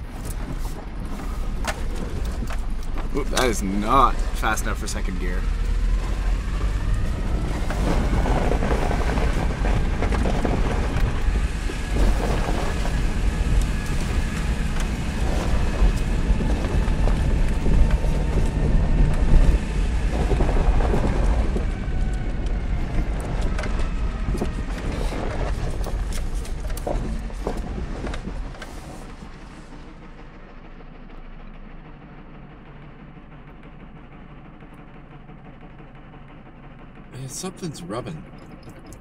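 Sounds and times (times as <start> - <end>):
road noise inside moving car: 0.0 - 36.2, 36.9 - 39.0
car engine running: 0.0 - 39.0
faint engine whine: 0.0 - 39.0.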